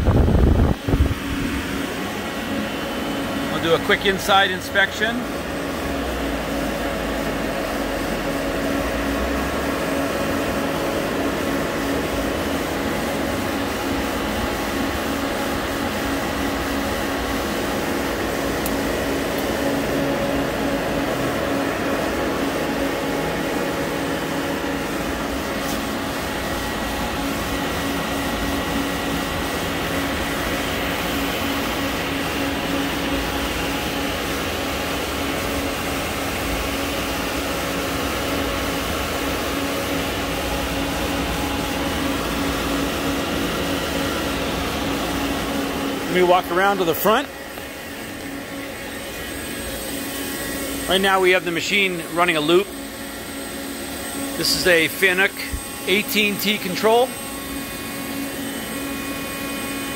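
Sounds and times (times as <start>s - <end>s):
lathe machine hum: 0.0s - 59.9s.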